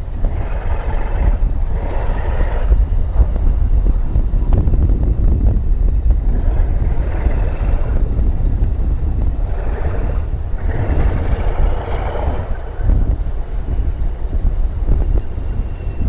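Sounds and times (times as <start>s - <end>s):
diesel locomotives running: 0.0s - 16.0s
wind rumble on microphone: 0.0s - 16.0s.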